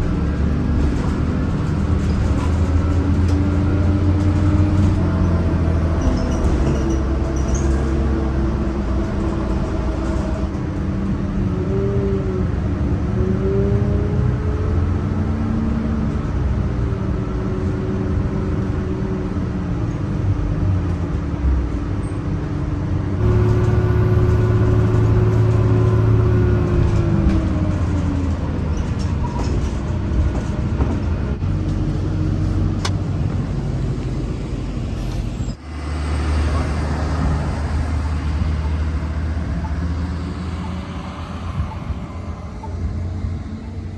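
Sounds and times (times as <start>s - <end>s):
bus engine running: 0.0s - 43.9s
road noise: 0.0s - 43.9s.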